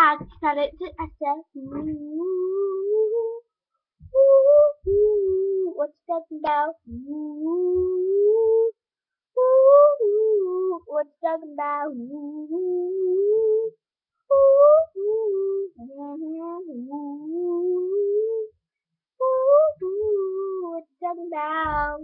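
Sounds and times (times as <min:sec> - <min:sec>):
child singing: 0:00.0 - 0:03.4, 0:04.2 - 0:08.7, 0:09.4 - 0:13.7, 0:14.3 - 0:18.5, 0:19.2 - 0:22.0.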